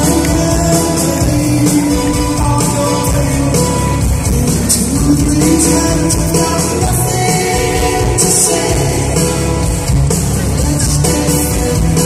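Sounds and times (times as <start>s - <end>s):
live pop-rock band: 0.0s - 12.0s.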